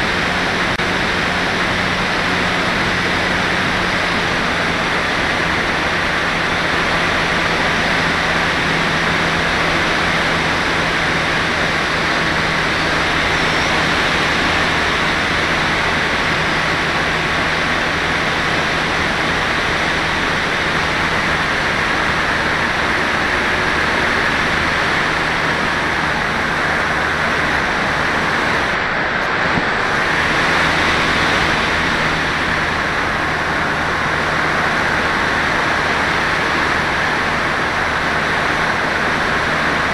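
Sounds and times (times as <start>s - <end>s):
rush of airflow: 0.0s - 39.9s.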